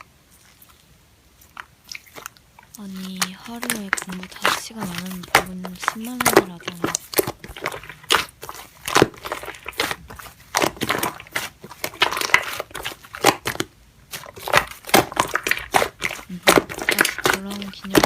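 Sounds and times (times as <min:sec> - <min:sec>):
slime crackling when squeezed: 0:00.4 - 0:18.0.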